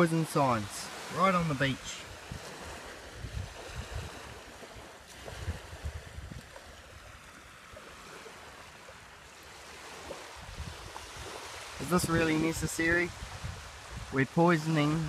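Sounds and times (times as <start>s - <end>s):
small waves washing onto beach: 0.0s - 15.0s
wind buffeting microphone: 0.9s - 8.7s, 9.5s - 15.0s.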